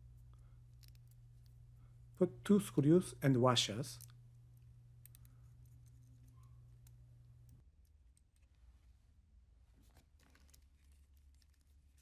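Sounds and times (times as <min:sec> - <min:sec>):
low hum: 0:00.0 - 0:09.9.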